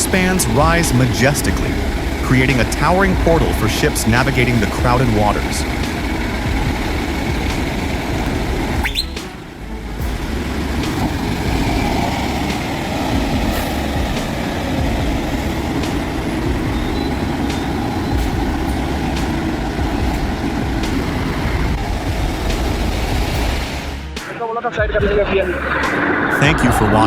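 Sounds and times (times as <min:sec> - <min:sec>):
heavy vehicle rumbling: 0:00.0 - 0:24.2, 0:25.0 - 0:27.0.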